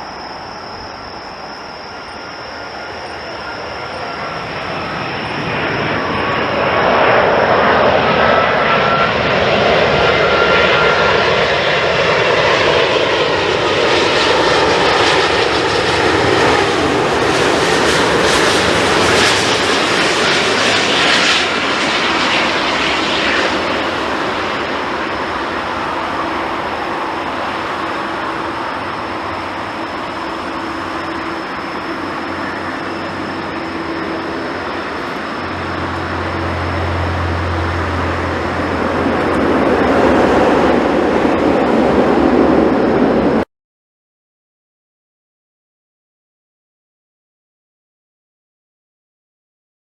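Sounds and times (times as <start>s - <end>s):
jet airliner engines roaring: 0.0s - 43.5s.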